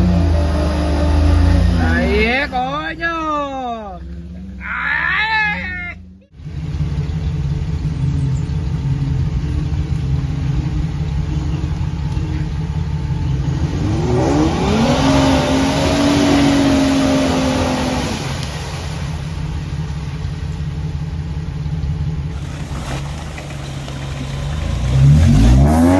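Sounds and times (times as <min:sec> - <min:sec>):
engine rumbling and revving: 0:00.0 - 0:04.8, 0:05.9 - 0:19.6, 0:21.8 - 0:25.9.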